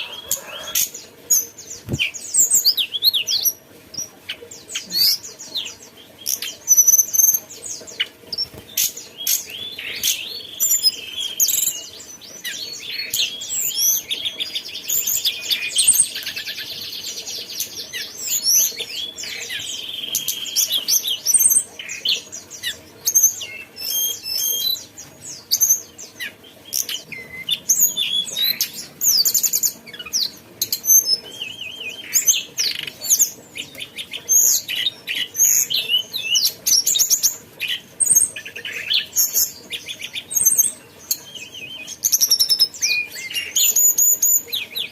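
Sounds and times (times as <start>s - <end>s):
songbird singing trills and whistles: 0.0s - 44.9s.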